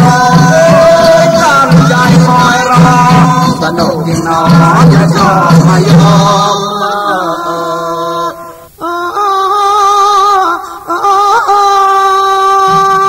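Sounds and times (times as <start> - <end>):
person singing long wavering notes: 0.0 - 13.0.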